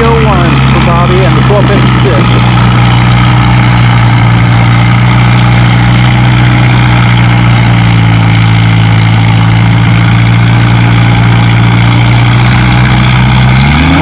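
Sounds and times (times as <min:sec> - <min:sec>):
tractor engine running steadily: 0:00.0 - 0:14.0.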